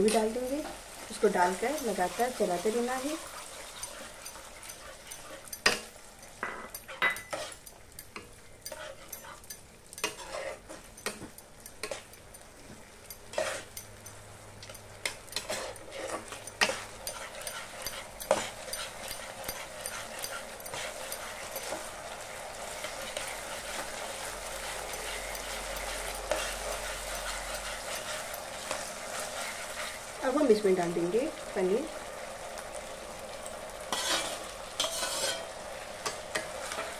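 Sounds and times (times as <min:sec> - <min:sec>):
metal spoon scraping a pan: 0:00.0 - 0:30.6, 0:33.9 - 0:36.9
food sizzling: 0:00.0 - 0:36.9.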